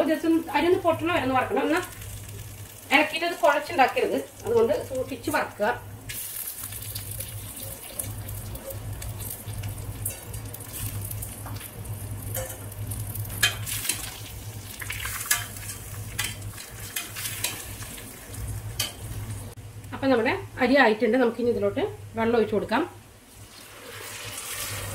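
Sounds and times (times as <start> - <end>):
rice sizzling in oil: 0.0 - 19.6, 23.3 - 24.9
steady low hum: 0.0 - 23.4.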